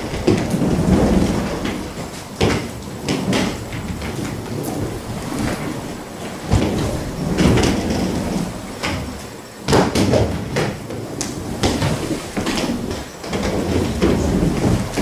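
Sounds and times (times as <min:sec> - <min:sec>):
skate wheels rolling on wood floor: 0:00.0 - 0:15.0
skates knocking on floor: 0:00.0 - 0:15.0.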